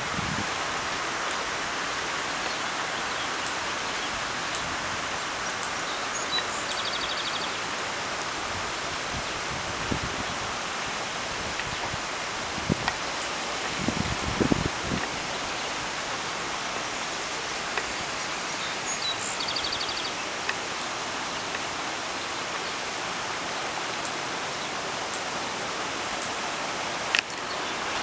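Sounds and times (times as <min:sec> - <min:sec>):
outdoor ambient hiss: 0:00.0 - 0:28.0.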